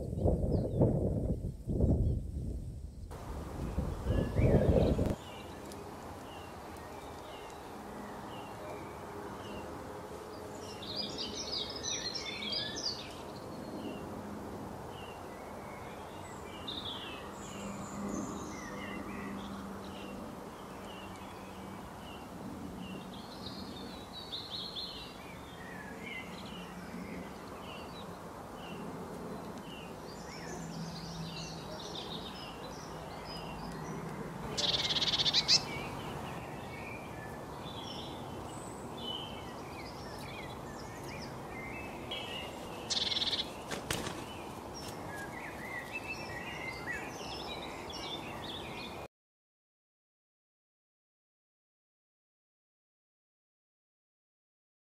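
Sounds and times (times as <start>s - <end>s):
wild birds chirping and tweeting: 0.0s - 49.1s.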